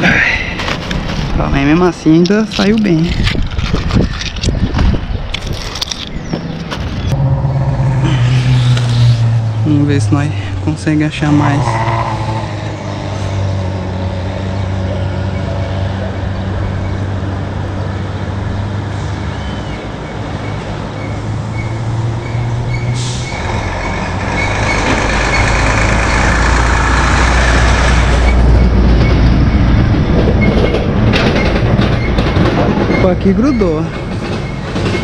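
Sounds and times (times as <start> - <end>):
rough engine rumble: 0.0 - 19.3, 20.3 - 34.9
heavy vehicle engine humming: 6.2 - 35.0.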